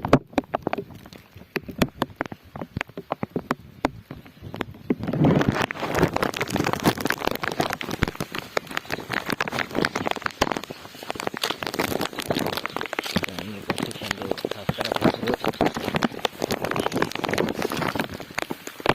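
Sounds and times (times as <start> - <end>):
rain drops pattering: 0.0 - 18.9.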